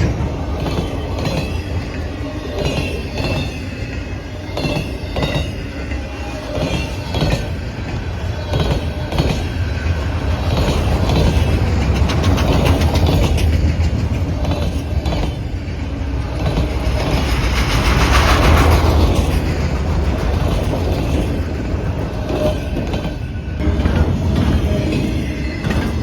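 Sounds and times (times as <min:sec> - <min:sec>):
freight train rumble: 0:00.0 - 0:26.0
train wheels clacking over rail joints: 0:00.0 - 0:26.0.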